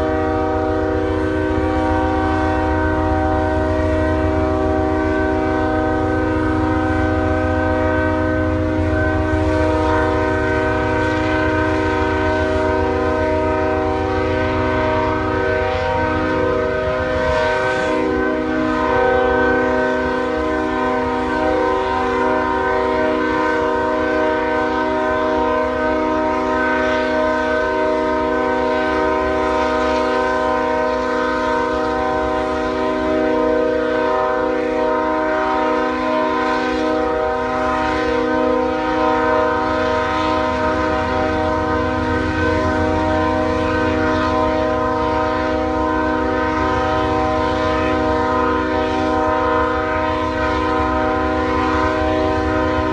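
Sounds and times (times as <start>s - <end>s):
train air horn blast: 0.0s - 52.9s
train rumbling: 0.0s - 52.9s.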